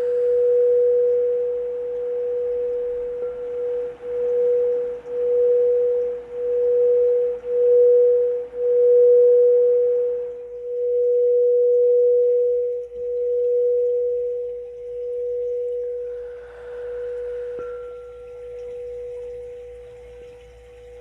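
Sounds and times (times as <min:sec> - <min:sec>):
singing bowl ringing: 0:00.0 - 0:21.0.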